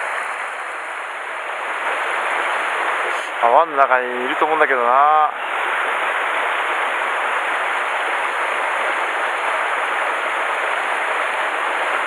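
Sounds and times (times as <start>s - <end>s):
rush of falling water: 0.0s - 12.0s.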